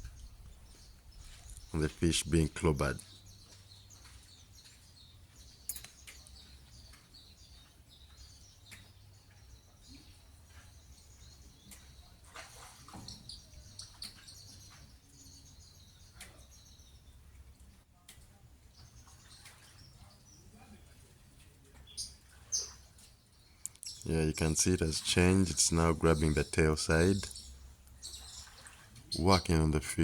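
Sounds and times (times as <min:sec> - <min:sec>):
low rumble of lake water: 0:00.0 - 0:30.0
small birds chirping: 0:00.0 - 0:30.0.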